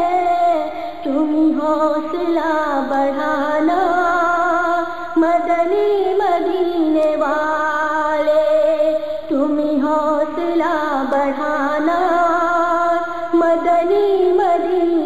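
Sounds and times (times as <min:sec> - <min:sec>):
high voice singing: 0:00.0 - 0:15.0.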